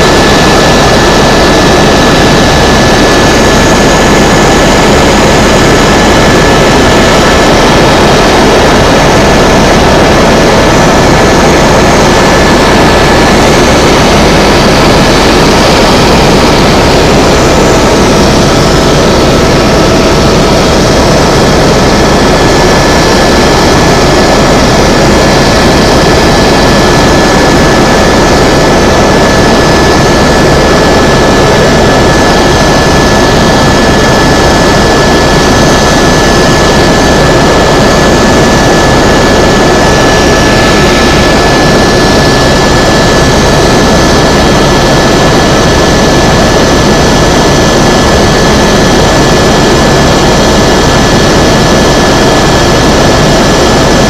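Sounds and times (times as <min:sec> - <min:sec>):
helicopter engine and rotor drone: 0:00.0 - 0:54.0
high whine: 0:00.0 - 0:54.0.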